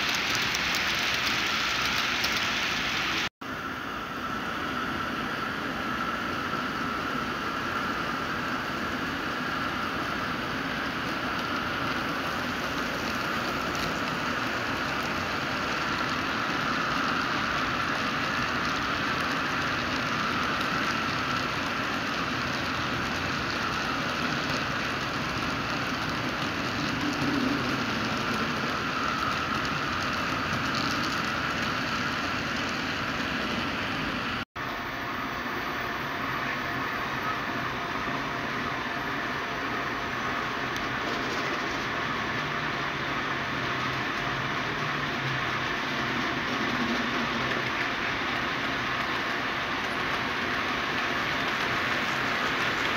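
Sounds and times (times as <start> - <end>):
model train motor whirring: 0.0 - 3.3, 4.6 - 34.4, 36.2 - 52.9.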